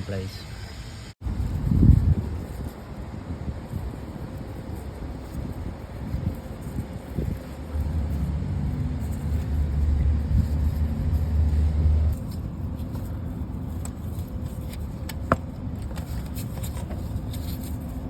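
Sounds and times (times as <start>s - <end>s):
low vehicle rumble: 0.6s - 18.0s.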